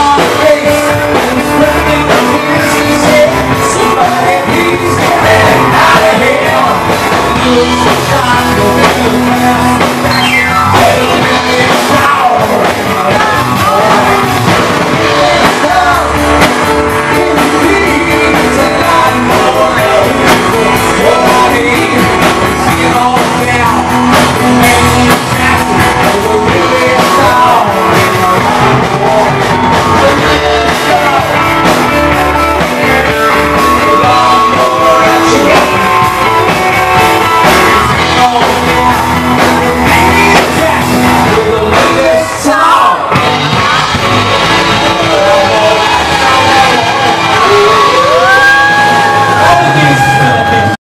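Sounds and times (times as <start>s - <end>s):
drum kit: 0.0s - 50.8s
electric guitar: 0.0s - 50.8s
keyboards: 0.0s - 50.8s.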